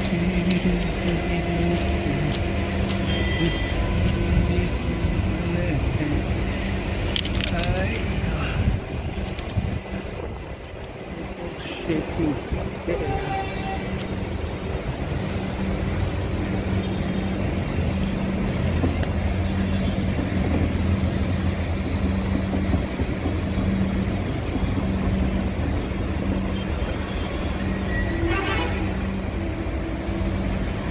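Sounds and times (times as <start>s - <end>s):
train electrical hum: 0.0s - 30.9s.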